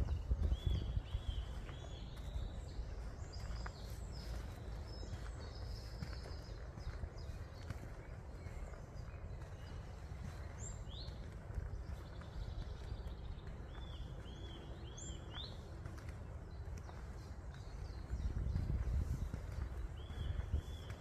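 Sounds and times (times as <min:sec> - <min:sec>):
steady low rumble: 0:00.0 - 0:21.0
woodland birds calling: 0:00.0 - 0:21.0.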